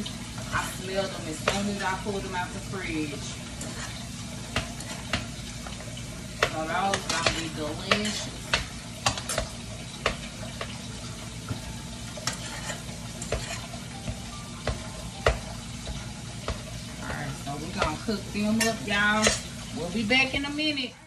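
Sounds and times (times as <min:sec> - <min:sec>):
utensil scraping pan: 0:00.0 - 0:20.5
food sizzling in a frying pan: 0:00.0 - 0:21.0.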